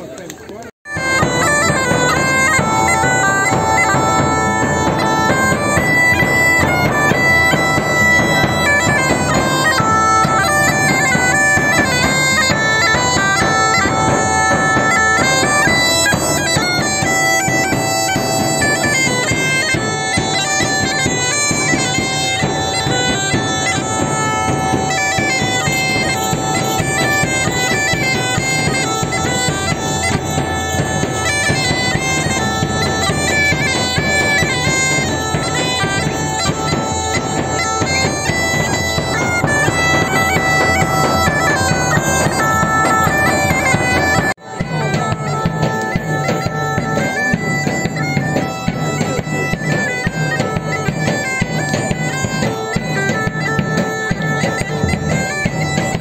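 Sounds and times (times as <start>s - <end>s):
bagpipes playing: 0.1s - 56.0s.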